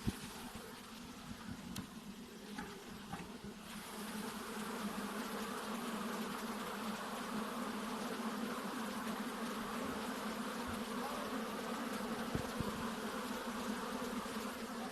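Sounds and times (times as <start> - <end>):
bees buzzing: 0.0 - 14.9.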